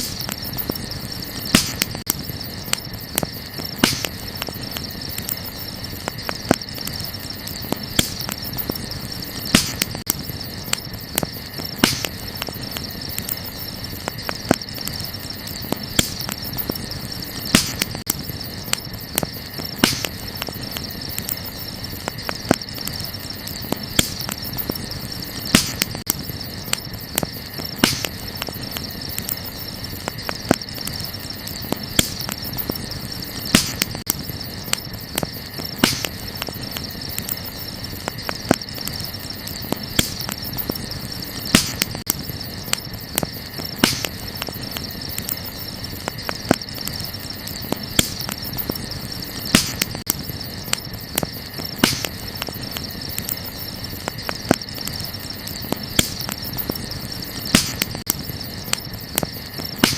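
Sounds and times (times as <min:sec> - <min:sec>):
high insect trill: 0:00.0 - 0:59.9
wood fire crackling: 0:00.0 - 0:59.9.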